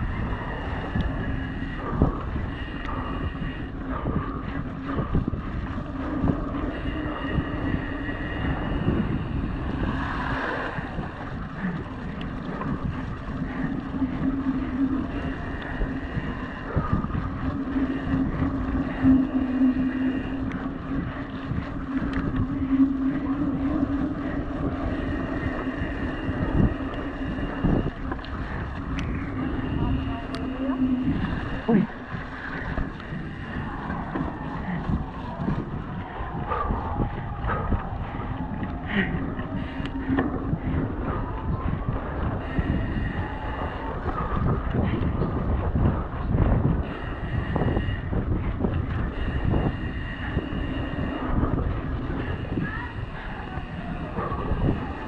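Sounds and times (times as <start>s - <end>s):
tyres rolling through mud: 0.0s - 47.2s
steady low hum: 0.0s - 55.0s
wind noise on microphone: 0.0s - 55.0s.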